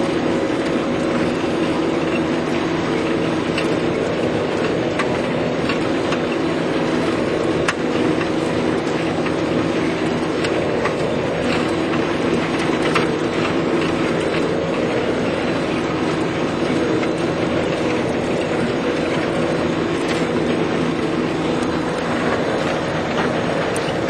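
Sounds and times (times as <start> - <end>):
forage harvester drone: 0.0 - 24.0.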